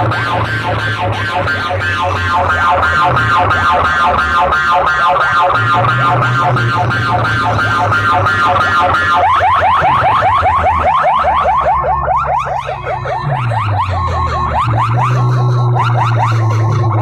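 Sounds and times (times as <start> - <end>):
electronic siren alarm effect: 0.0 - 17.0
low steady drone: 0.0 - 17.0.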